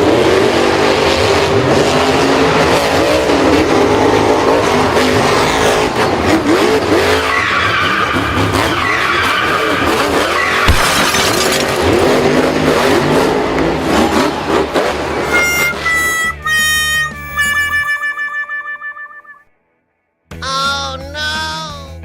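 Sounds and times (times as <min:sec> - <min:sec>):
engines revving: 0:00.0 - 0:17.7.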